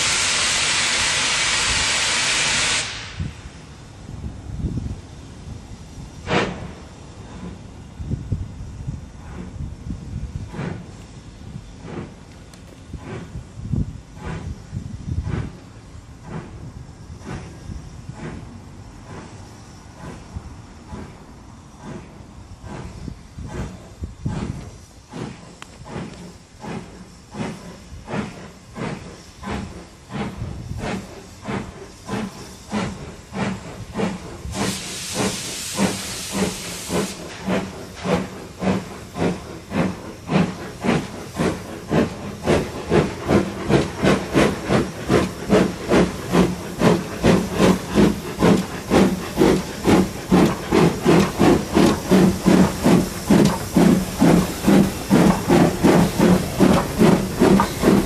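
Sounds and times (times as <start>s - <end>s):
sharp steam hiss: 0.0s - 58.0s
steam locomotive exhaust chuffs: 0.0s - 58.0s.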